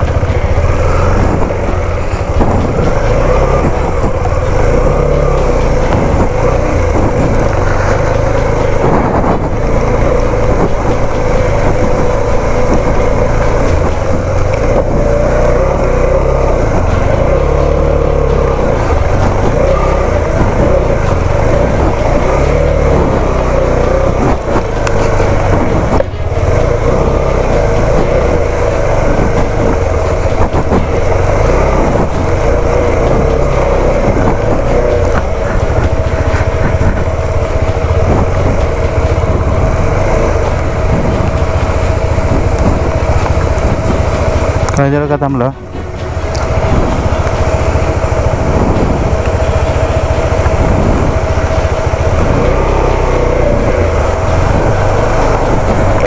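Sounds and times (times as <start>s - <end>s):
motorcycle running: 0.0s - 56.0s
wind and road noise: 0.0s - 56.0s.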